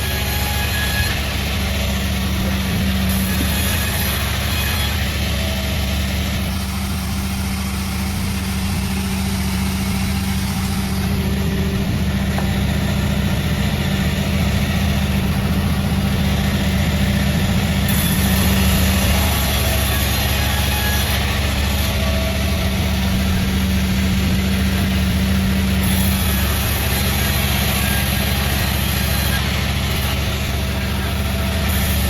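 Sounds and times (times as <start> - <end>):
sawmill machinery droning: 0.0 - 32.0.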